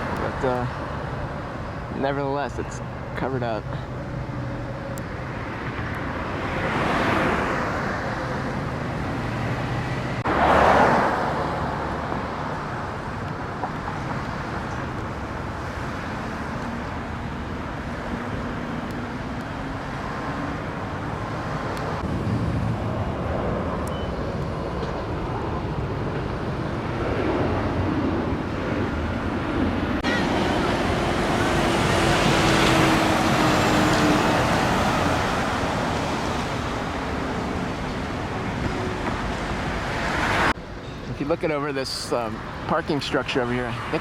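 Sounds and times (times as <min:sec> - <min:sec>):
traffic hum: 0:00.0 - 0:44.0
vehicles passing: 0:00.0 - 0:44.0.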